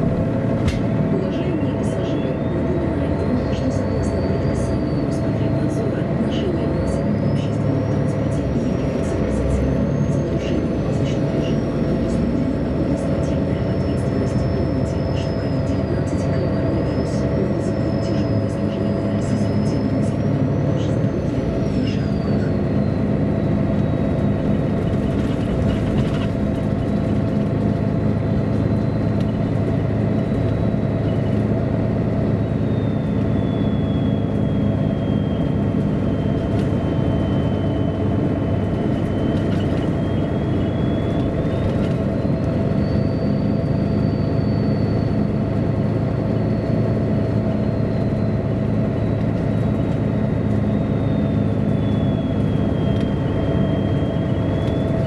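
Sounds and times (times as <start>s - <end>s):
bus engine droning: 0.0s - 55.0s.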